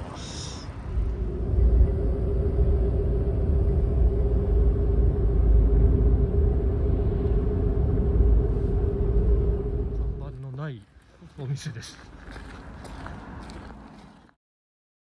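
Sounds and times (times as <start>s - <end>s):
car engine and road rumble: 0.0s - 14.3s.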